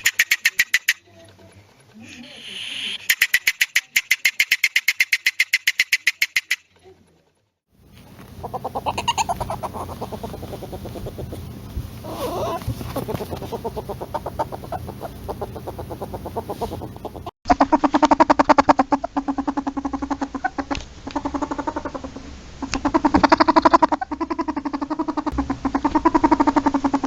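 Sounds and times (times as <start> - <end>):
polecat chattering: 0.0 - 1.4, 2.0 - 6.7, 8.0 - 27.0.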